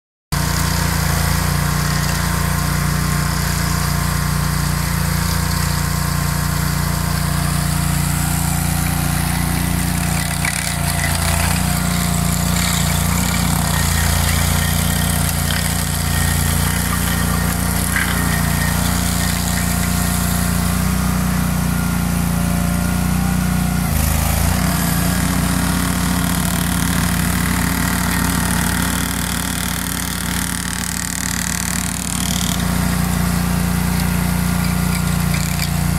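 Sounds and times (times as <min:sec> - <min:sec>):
cutting wheel grinding stump: 0:00.3 - 0:35.9
stump grinder engine running: 0:00.3 - 0:35.9.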